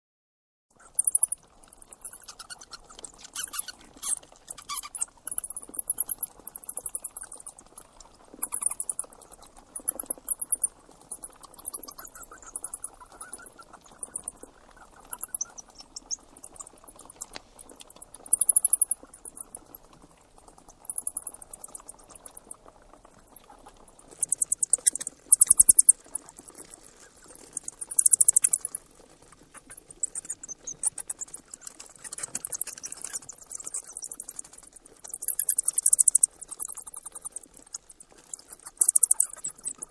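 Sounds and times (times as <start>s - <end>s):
rat squeaking: 0.8s - 39.9s.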